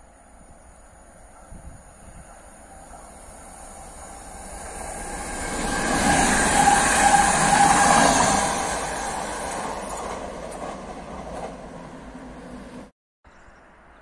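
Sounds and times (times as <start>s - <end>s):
train whine: 0.0s - 12.9s
train wheels rumbling on rails: 0.4s - 12.9s.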